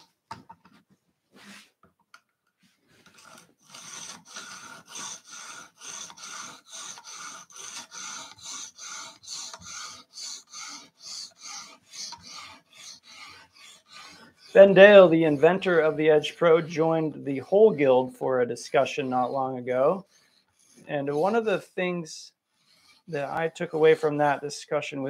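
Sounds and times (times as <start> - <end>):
stone rasping on knife blade: 3.2 - 24.4.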